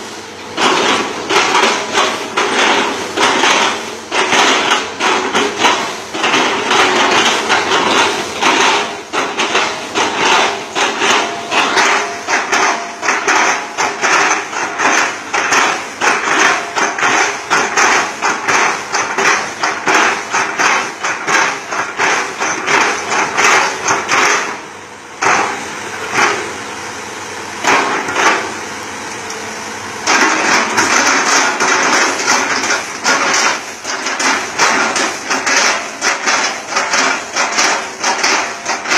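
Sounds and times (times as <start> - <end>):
machine running: 0.0 - 38.9.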